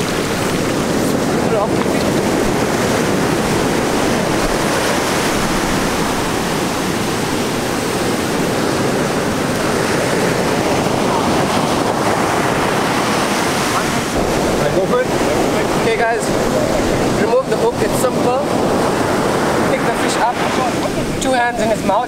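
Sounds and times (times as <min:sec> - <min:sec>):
ocean surf breaking: 0:00.0 - 0:22.0
wind noise on microphone: 0:00.0 - 0:22.0.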